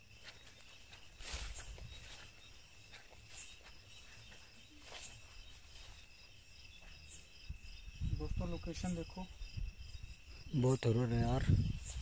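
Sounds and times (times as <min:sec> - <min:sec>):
crickets trilling: 0:00.0 - 0:12.0
soft footsteps on grass: 0:00.0 - 0:12.0.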